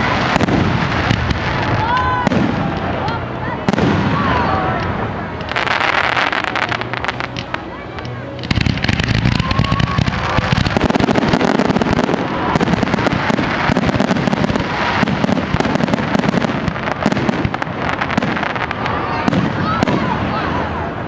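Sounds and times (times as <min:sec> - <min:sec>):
fireworks barrage of bangs: 0:00.0 - 0:04.8, 0:05.4 - 0:07.6, 0:08.4 - 0:20.7.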